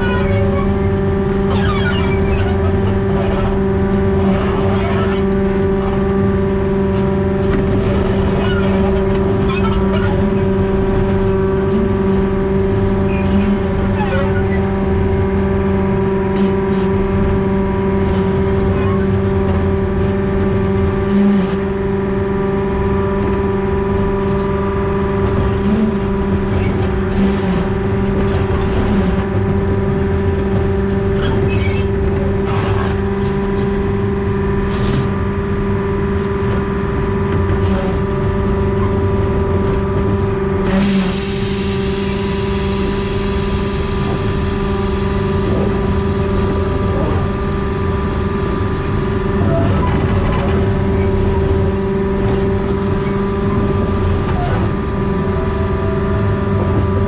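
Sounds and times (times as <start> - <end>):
locomotive engine droning: 0.0 - 57.0.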